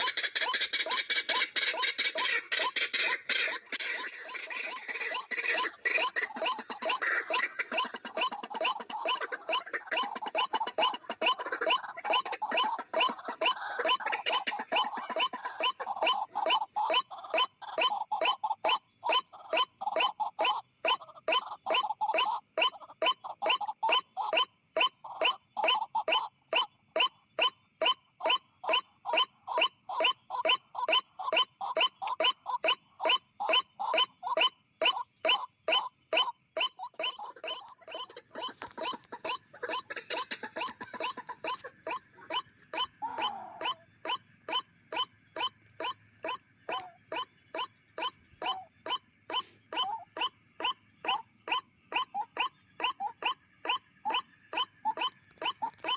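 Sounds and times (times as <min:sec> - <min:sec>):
waterhen harsh calls: 0:00.0 - 0:55.9.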